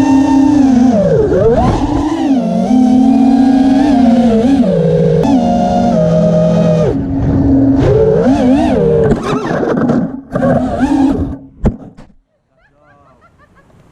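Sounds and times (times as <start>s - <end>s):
quadcopter motors whining: 0.0s - 11.5s.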